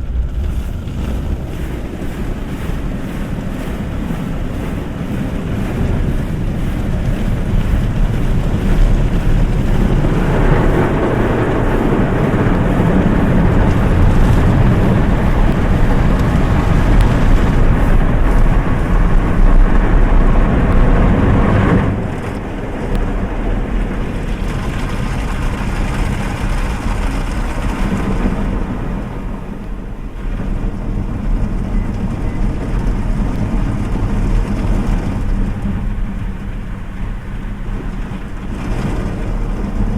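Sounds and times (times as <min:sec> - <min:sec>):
car wash water spray and machinery: 0:00.0 - 0:39.9.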